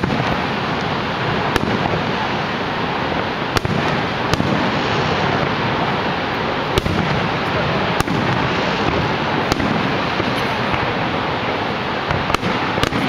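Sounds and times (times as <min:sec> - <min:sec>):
firework shells bursting: 0:00.0 - 0:13.0
steady rushing noise: 0:00.0 - 0:13.0.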